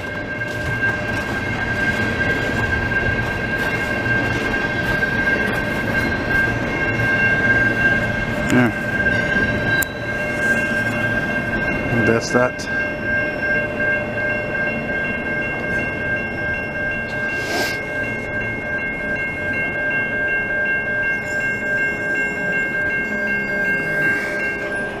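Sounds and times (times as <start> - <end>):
freight train passing: 0.0 - 25.0
level crossing warning bells: 0.0 - 25.0.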